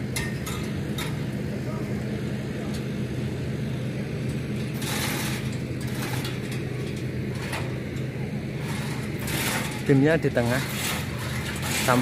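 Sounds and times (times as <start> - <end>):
diesel generator humming: 0.0 - 12.0.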